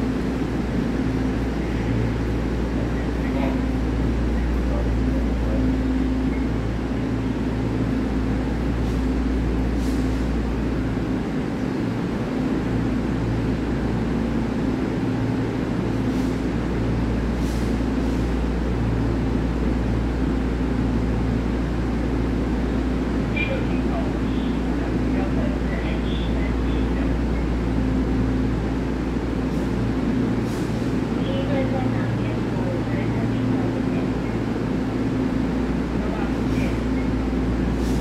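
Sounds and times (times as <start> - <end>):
train equipment low drone: 0.0 - 38.0.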